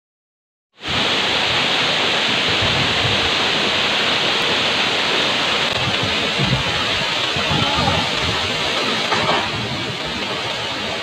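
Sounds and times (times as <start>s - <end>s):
waterfall rushing over rocks: 0.8s - 11.0s.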